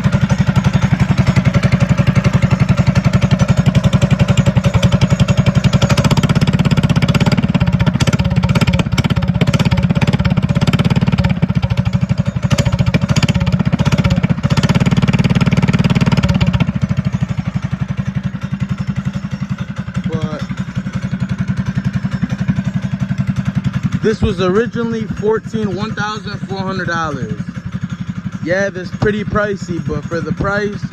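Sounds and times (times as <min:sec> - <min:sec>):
mini bike engine running: 0:00.0 - 0:30.9.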